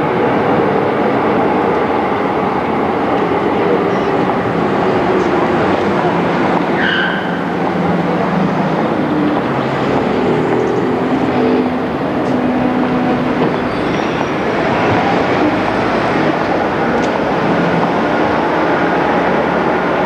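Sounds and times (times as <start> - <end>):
street traffic rumble: 0.0 - 20.0
tram moving past: 0.0 - 20.0.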